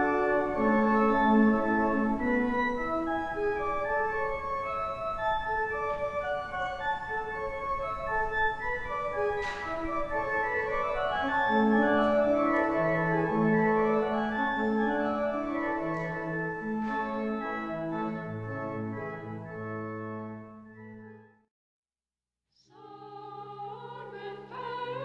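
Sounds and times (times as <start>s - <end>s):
church organ chords: 0.0s - 21.4s.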